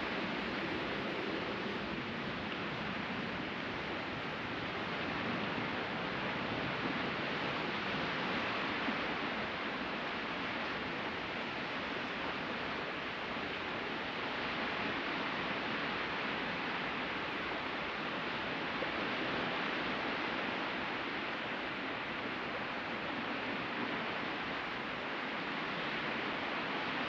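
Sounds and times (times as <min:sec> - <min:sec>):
surf hissing on beach: 0:00.0 - 0:27.0.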